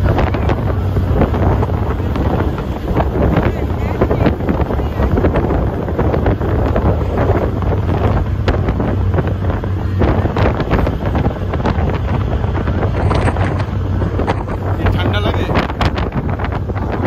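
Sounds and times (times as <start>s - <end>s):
ferry engines humming: 0.0s - 17.0s
wind rushing over microphone: 0.0s - 17.0s.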